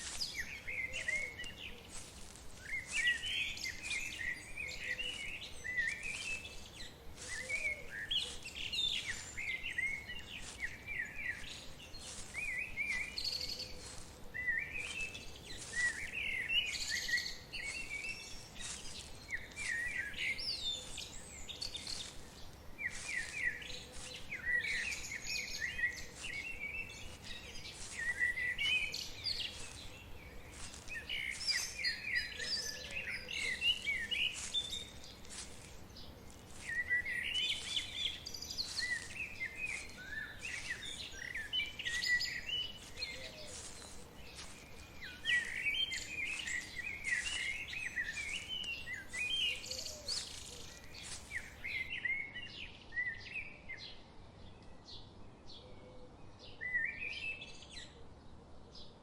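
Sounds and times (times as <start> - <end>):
faint background hiss: 0.0 - 51.9
songbirds chirping: 0.0 - 59.0.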